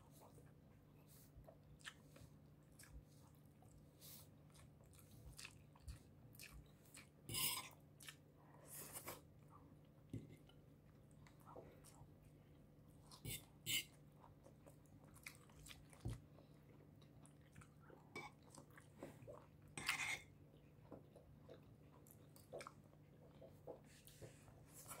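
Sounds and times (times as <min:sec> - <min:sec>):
person chewing food: 0:00.1 - 0:25.0.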